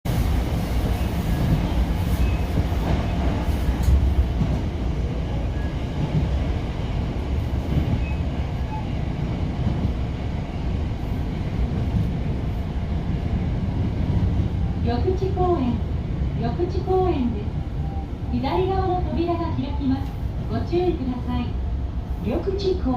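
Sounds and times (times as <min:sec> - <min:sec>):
electric train rumbling: 0:00.1 - 0:22.9.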